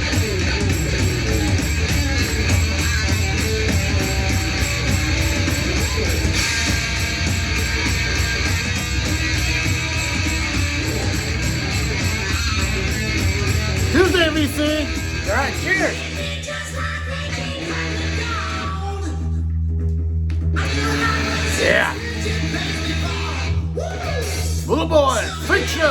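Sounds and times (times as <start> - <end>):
hard rock music: 0.0 - 18.8, 20.6 - 25.9
distorted electric guitar: 0.0 - 18.9, 20.4 - 23.8, 24.7 - 25.9.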